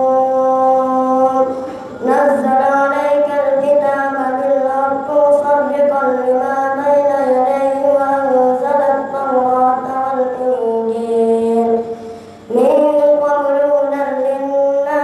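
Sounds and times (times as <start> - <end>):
boy chanting recitation: 0.0 - 15.0.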